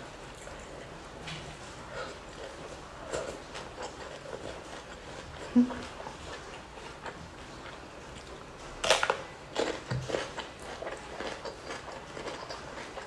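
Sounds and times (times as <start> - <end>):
crunching chews: 2.0 - 13.0.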